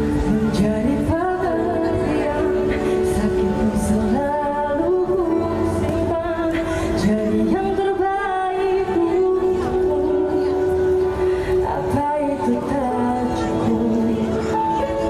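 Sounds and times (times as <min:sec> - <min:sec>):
live pop band playing: 0:00.0 - 0:15.0
woman singing: 0:00.0 - 0:15.0.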